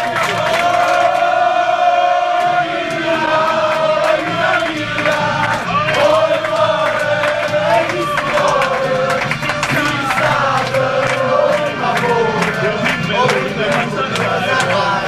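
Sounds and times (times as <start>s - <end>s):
hands clapping: 0.0s - 1.5s, 2.3s - 15.0s
crowd chanting in unison: 0.0s - 15.0s.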